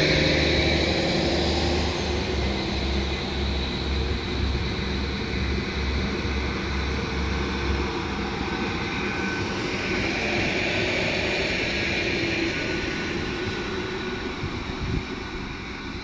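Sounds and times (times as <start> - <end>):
thin whine: 0.0 - 16.0
train wheels rumbling on rail: 0.0 - 16.0.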